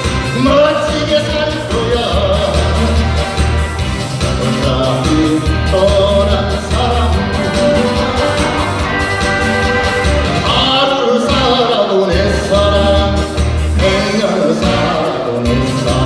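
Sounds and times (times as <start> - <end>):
backing music with bass line: 0.0 - 16.0
person singing: 0.3 - 3.4, 4.2 - 16.0.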